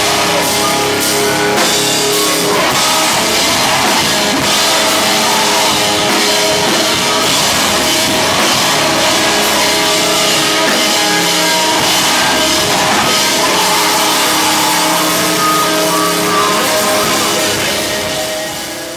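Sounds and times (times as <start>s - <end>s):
bass guitar: 0.0s - 18.9s
distorted electric guitar: 0.0s - 18.9s
drum kit: 0.0s - 18.9s.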